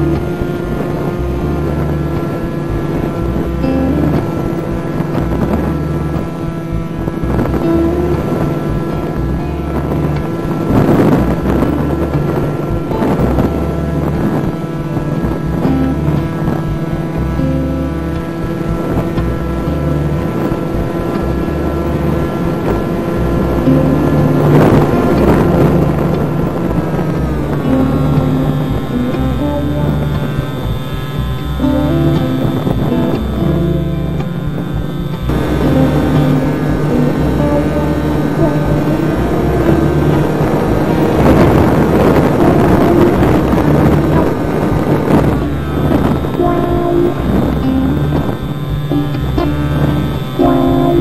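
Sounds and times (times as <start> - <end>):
electric motor whine: 0.0 - 51.0
wind rushing over microphone: 0.0 - 51.0.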